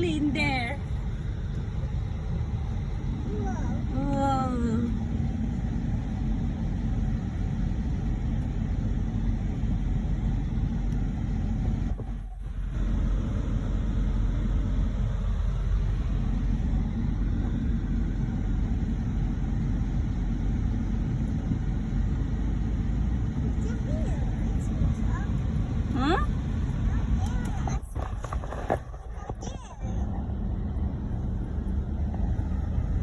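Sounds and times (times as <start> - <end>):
low rumbling noise: 0.0 - 33.0.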